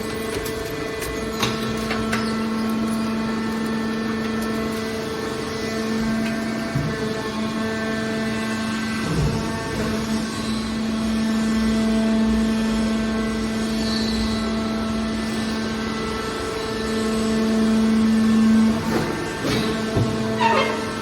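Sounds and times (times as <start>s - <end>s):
hydraulic machine hum: 0.0s - 21.0s.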